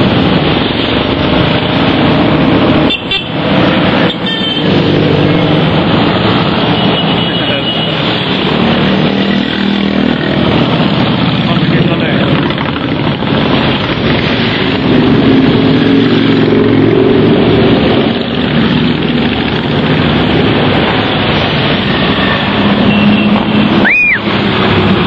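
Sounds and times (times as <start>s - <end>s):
motorcycle engines passing: 0.0s - 25.0s.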